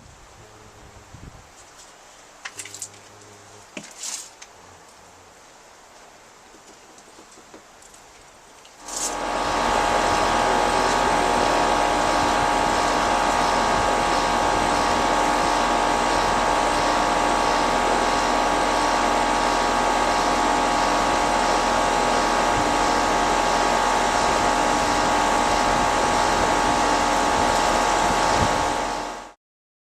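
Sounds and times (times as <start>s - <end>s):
air conditioner compressor and fan humming: 0.0s - 29.4s.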